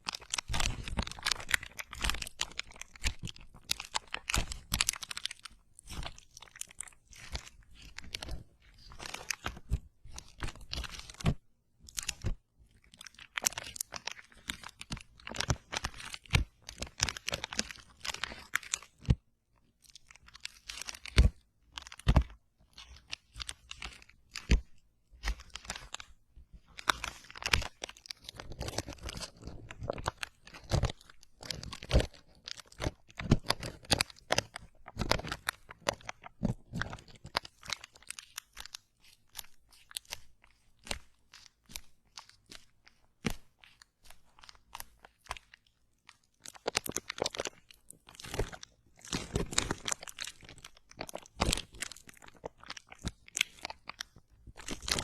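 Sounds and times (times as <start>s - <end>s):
crunching and chewing food: 0.0s - 55.0s.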